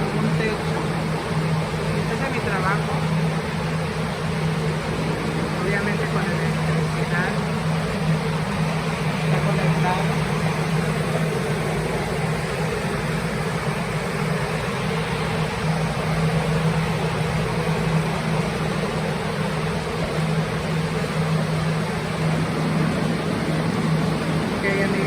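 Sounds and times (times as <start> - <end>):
drying fans whirring: 0.0 - 25.0
motor hum: 0.0 - 25.0.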